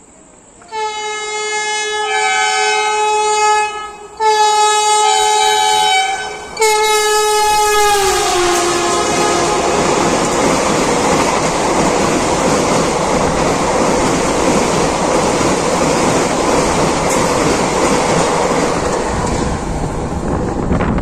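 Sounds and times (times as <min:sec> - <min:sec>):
train rushing past: 0:00.0 - 0:21.0.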